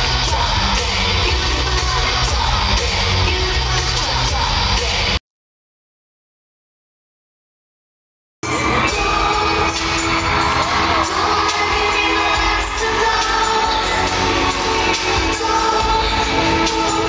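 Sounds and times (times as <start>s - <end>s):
amplified pop music: 0.0s - 5.2s, 8.4s - 17.0s
woman singing: 0.0s - 5.2s, 8.5s - 17.0s.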